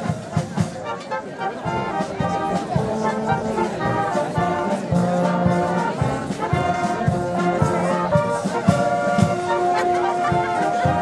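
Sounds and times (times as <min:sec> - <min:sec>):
brass and woodwind band playing: 0:00.0 - 0:11.0
tubas playing low notes: 0:00.0 - 0:11.0.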